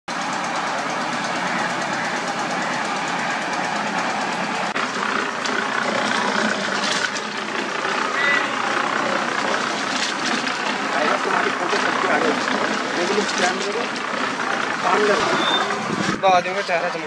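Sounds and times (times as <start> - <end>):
cement mixer engine running: 0.1 - 17.0.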